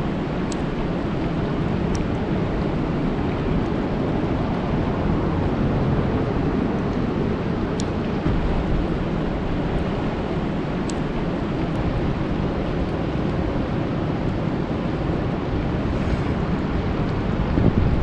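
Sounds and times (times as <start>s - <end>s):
rain falling on a lake: 0.0s - 18.0s.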